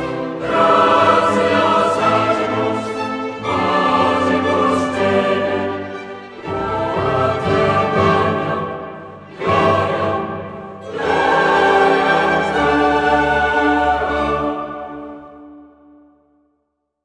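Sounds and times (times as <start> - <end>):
choral music with orchestra: 0.0 - 16.4.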